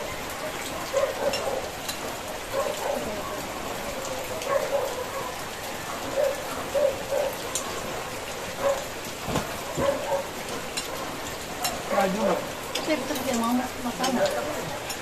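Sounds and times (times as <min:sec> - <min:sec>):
rain on corrugated roof: 0:00.0 - 0:15.0.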